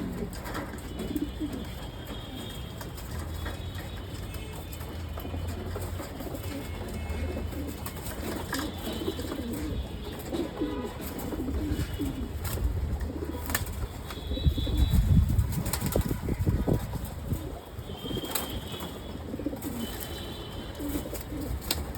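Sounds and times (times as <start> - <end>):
pigeons cooing: 0.0 - 21.9.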